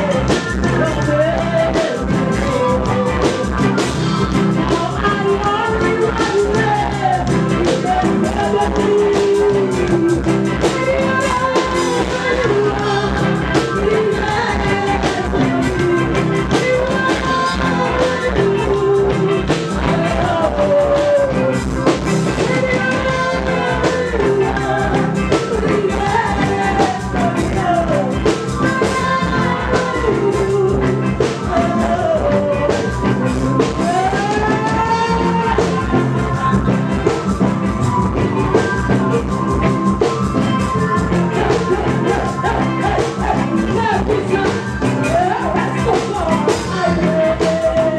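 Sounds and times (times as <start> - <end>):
bass: 0.0 - 47.9
person singing: 0.0 - 47.9
reggae band playing: 0.0 - 47.9
steady drum beat: 0.0 - 47.9.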